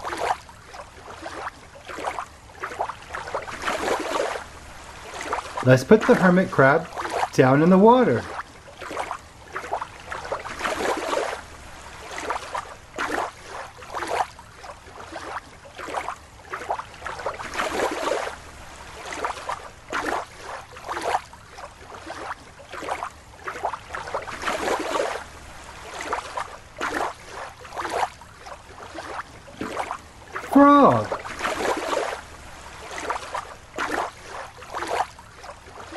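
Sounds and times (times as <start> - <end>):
water sloshing and splashing: 0.0 - 35.9.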